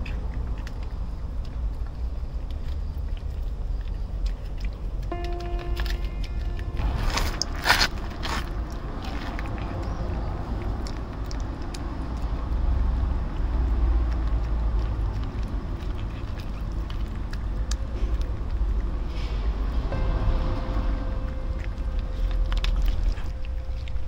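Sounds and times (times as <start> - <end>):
cat chewing wet food: 0.0 - 24.0
steady low rumble: 0.0 - 24.0.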